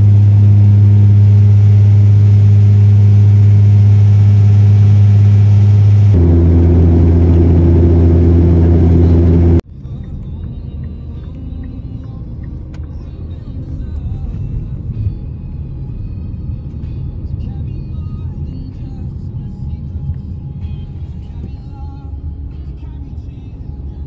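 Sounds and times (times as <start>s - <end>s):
road noise inside car: 0.0s - 24.0s
turboprop cabin drone: 0.0s - 24.0s.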